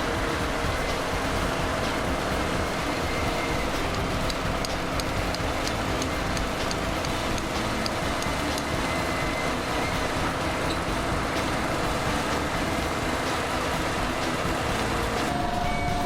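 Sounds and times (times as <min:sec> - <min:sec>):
construction machinery engine rumble: 0:00.0 - 0:16.0.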